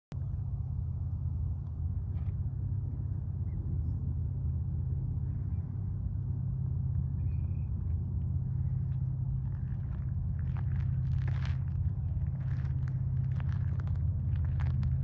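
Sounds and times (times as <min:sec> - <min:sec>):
low outdoor rumble: 0:00.1 - 0:15.0.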